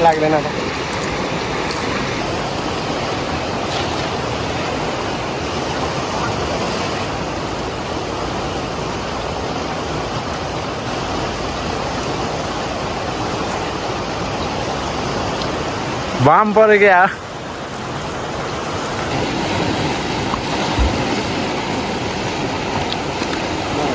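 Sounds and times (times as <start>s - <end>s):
river water rushing: 0.0s - 23.9s.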